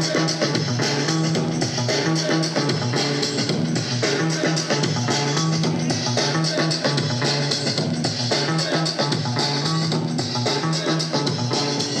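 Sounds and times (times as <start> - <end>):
music with steady beat and bass line: 0.0 - 12.0.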